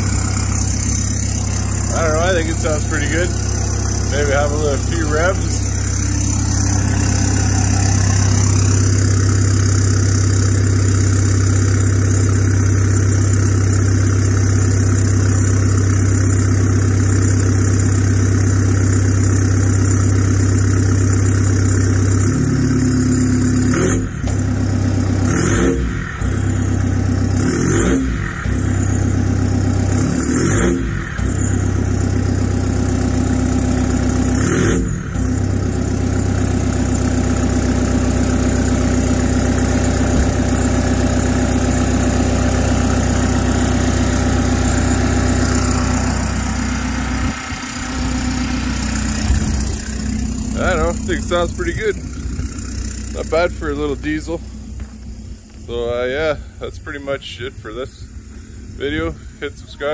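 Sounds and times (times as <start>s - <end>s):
diesel engine idling and revving: 0.0s - 59.9s.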